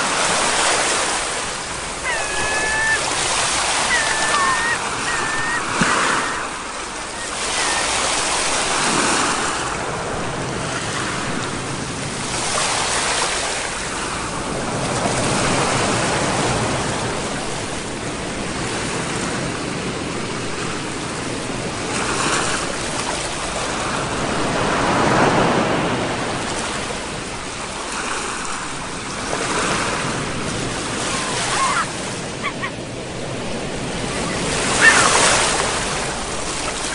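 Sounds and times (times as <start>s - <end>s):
sea waves breaking on shore: 0.0s - 36.9s.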